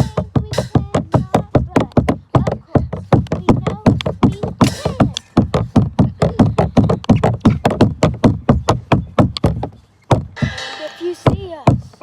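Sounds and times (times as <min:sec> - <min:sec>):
rapid sharp knocking: 0:00.0 - 0:11.9.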